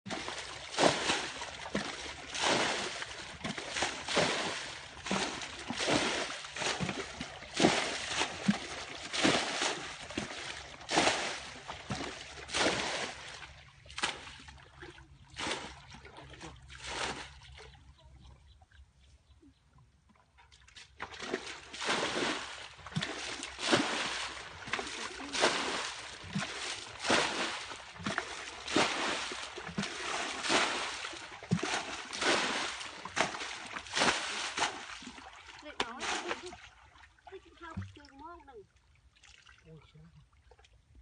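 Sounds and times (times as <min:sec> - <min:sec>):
buckets scooping muddy water: 0:00.1 - 0:18.4, 0:19.8 - 0:41.0.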